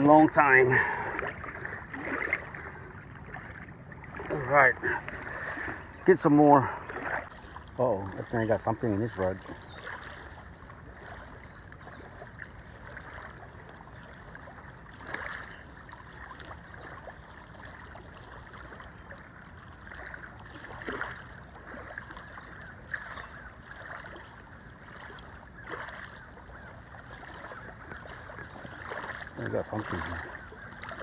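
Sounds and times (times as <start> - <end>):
river water lapping on rocks: 0.0 - 31.0.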